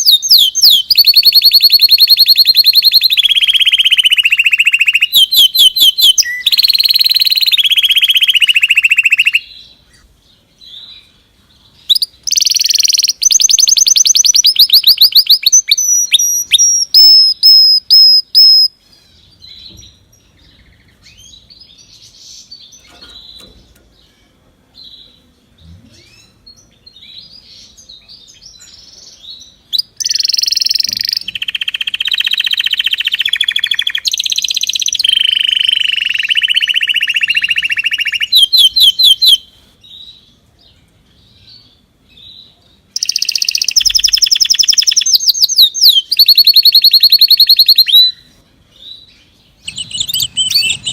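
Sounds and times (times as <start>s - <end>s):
faint bird chirps: 0.0s - 50.9s
songbird singing trills: 0.0s - 50.9s.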